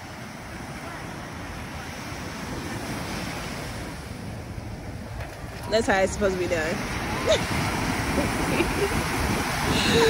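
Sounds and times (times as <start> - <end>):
ocean surf breaking on shore: 0.0 - 10.0
wind buffeting microphone: 0.0 - 10.0.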